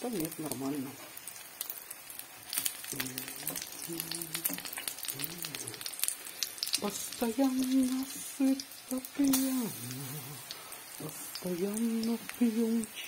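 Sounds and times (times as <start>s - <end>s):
fritters sizzling in hot oil: 0.0s - 13.0s.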